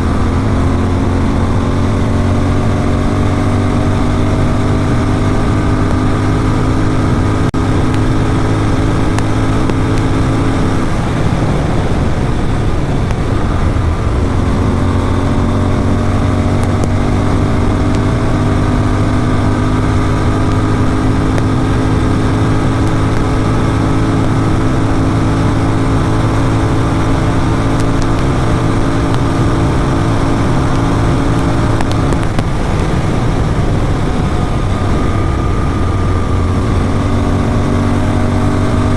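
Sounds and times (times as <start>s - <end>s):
motorcycle engine at speed: 0.0s - 38.9s
wind rush: 0.0s - 38.9s.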